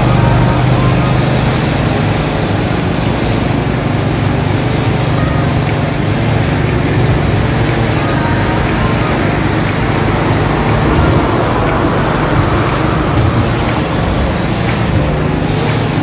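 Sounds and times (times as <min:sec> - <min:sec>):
ride-on lawn mower engine: 0:00.0 - 0:16.0.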